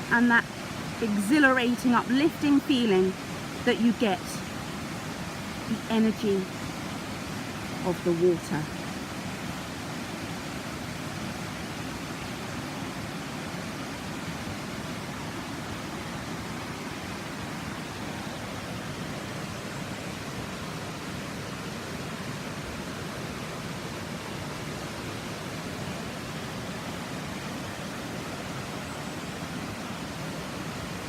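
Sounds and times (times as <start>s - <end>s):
waterfall roaring: 0.0s - 31.0s.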